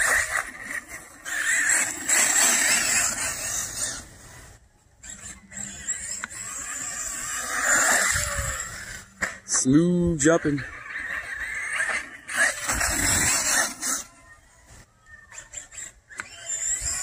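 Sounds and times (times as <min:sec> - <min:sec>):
electric motor whine: 0:00.0 - 0:17.0
tyres on dirt: 0:00.0 - 0:17.0.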